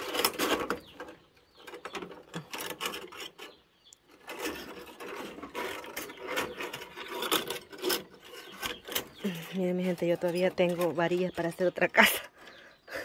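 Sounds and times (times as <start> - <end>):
wire and rods scraping: 0.0 - 12.6.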